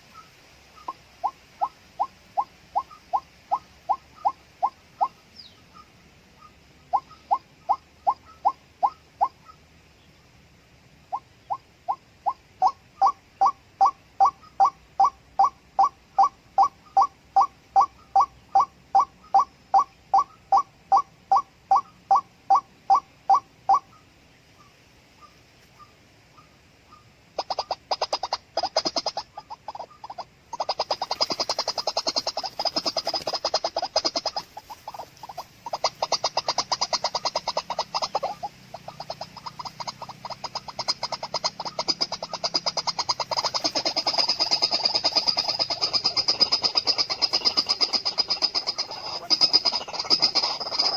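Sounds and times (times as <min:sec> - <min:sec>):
waterhen calls: 0:00.0 - 0:10.2, 0:11.0 - 0:50.9.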